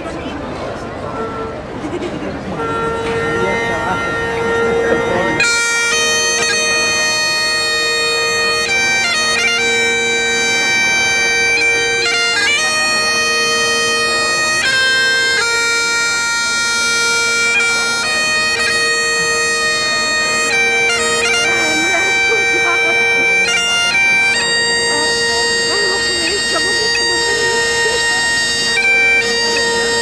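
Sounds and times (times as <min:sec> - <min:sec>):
bagpipe playing a tune: 0:01.0 - 0:30.0.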